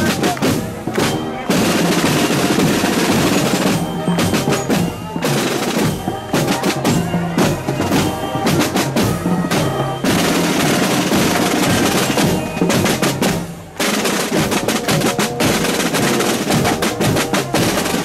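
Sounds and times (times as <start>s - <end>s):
bass drum beats: 0.0s - 18.0s
snare drum rolls: 0.0s - 18.0s.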